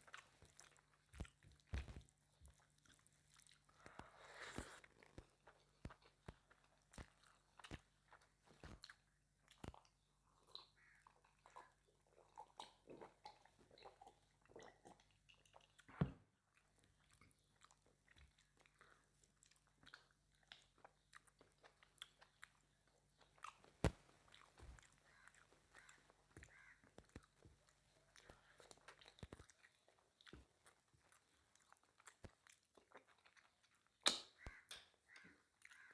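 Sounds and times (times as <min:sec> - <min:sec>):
mouth clicks and smacks: 0:00.0 - 0:35.9
person chewing food: 0:00.0 - 0:35.9.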